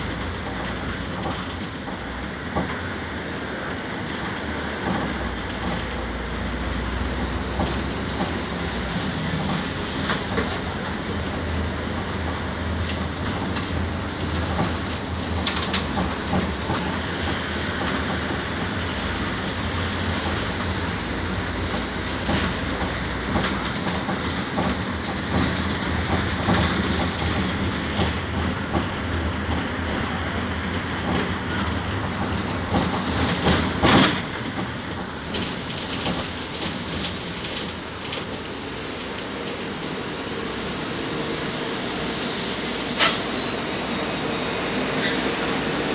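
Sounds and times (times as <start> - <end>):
bus engine and road rumble: 0.0 - 45.9.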